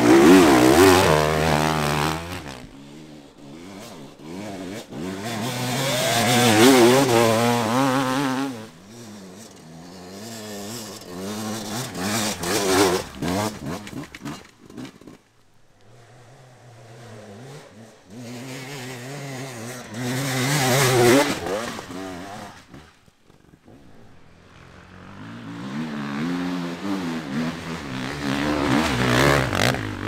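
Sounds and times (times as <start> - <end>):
dirt bike engine revving: 0.0 - 15.2, 15.8 - 30.0.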